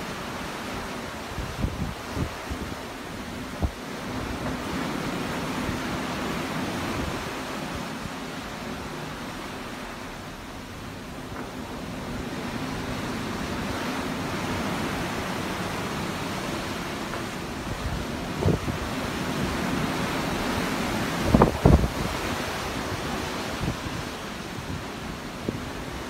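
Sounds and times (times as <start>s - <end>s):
ocean waves rushing: 0.0s - 26.0s.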